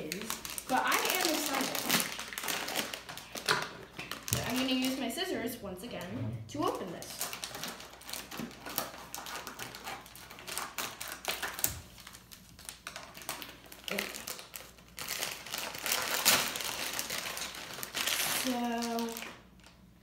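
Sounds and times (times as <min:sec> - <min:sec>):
plastic bag rustling: 0:00.0 - 0:05.4, 0:06.7 - 0:19.8.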